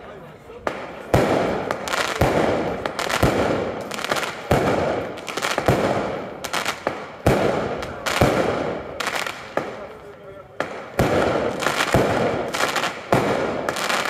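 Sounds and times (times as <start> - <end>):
firework crackling: 0.5 - 14.0
firework bangs echoing: 0.6 - 14.0.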